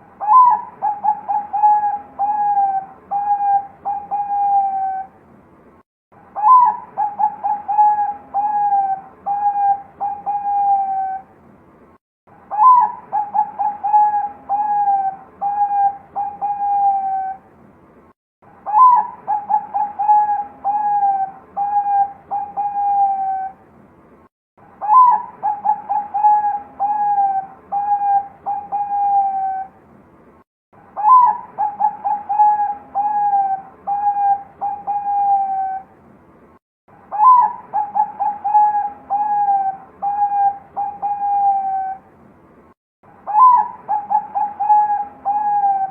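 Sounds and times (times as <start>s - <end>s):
dove cooing song: 0.0s - 5.2s, 6.3s - 11.3s, 12.5s - 17.5s, 18.6s - 23.6s, 24.8s - 29.8s, 30.9s - 35.9s, 37.1s - 42.1s, 43.2s - 45.9s.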